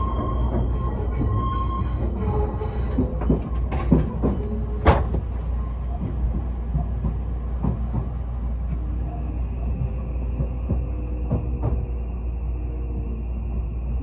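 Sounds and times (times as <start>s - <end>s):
express train rumbling: 0.0s - 14.0s.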